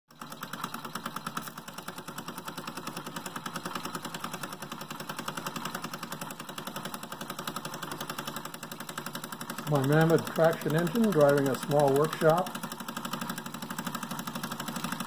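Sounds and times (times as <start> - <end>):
model steam engine chuffing: 0.1 - 15.0.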